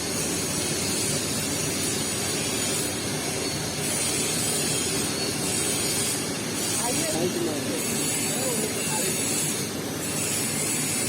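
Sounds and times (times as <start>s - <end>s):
welding arc hiss and hum: 0.0s - 11.0s.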